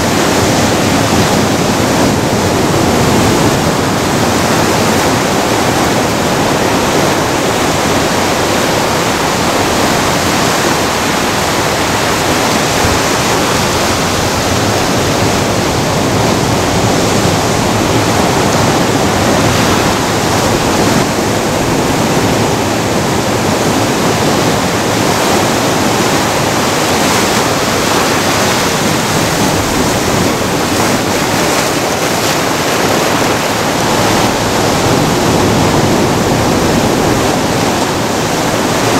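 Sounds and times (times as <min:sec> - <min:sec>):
surf breaking on rocks: 0:00.0 - 0:38.9.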